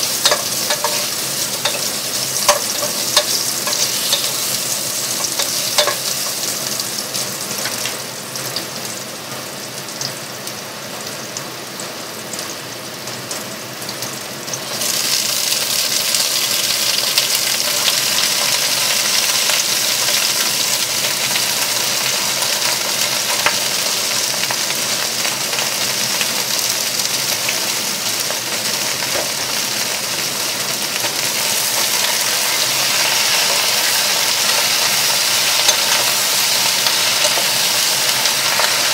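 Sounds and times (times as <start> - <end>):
vegetables sizzling in hot oil: 0.0 - 38.9.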